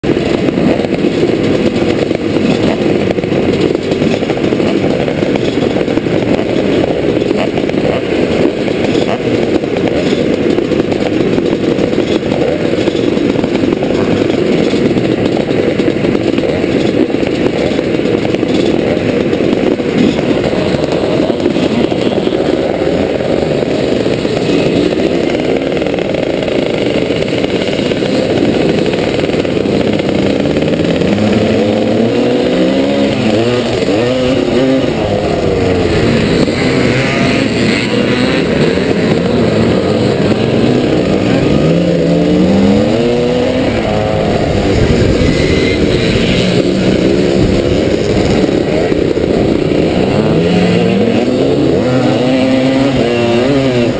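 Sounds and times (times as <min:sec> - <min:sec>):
motocross bikes revving: 0:00.0 - 0:53.9.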